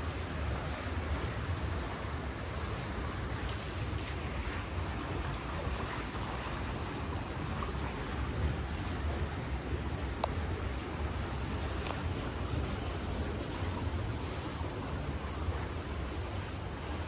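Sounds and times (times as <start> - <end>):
sea surf: 0.0 - 17.0
wind rumbling on microphone: 0.0 - 17.0.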